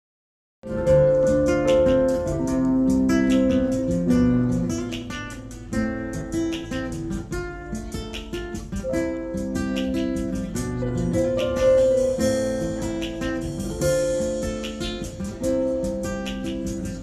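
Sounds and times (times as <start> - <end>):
acoustic guitar chords: 0.7 - 17.0.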